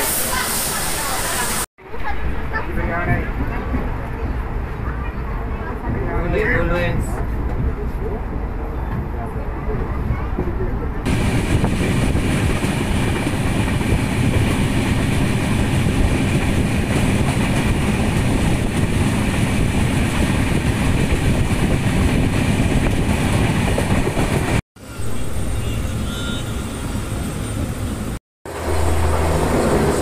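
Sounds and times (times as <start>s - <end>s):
train rumbling and rattling on rails: 0.0s - 30.0s.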